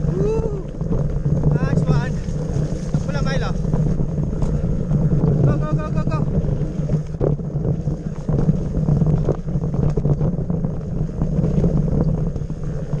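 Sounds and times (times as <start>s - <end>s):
bike knocking and rattling: 0.0s - 13.0s
wind buffeting microphone: 0.0s - 13.0s.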